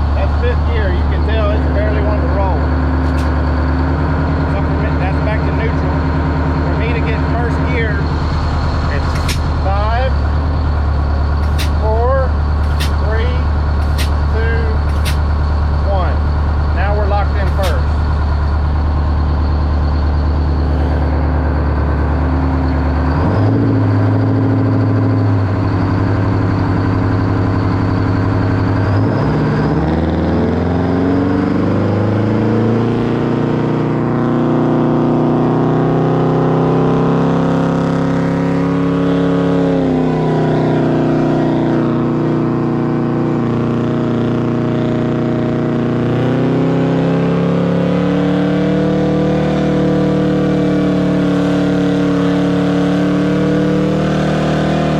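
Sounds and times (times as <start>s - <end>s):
diesel truck engine revving: 0.0s - 54.9s.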